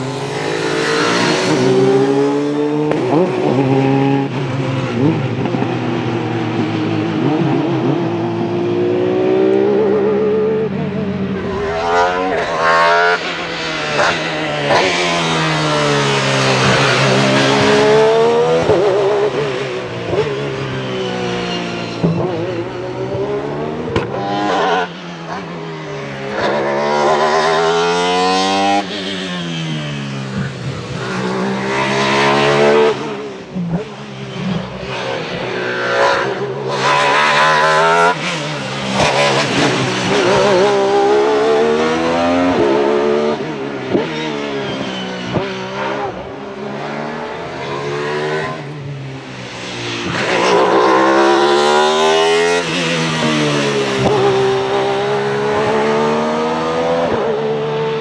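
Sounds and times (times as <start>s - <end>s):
race car engine revving hard: 0.0s - 58.0s.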